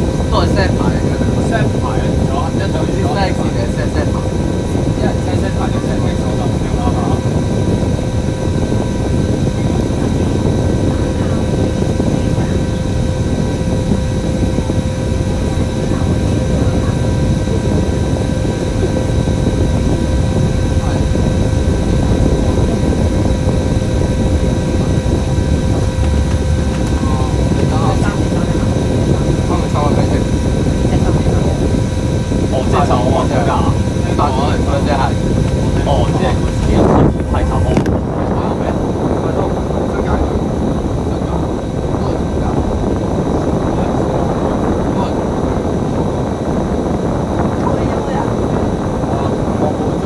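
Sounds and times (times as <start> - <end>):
bus engine and road rumble: 0.0 - 50.0
constant whine: 0.0 - 50.0
voices: 0.0 - 50.0.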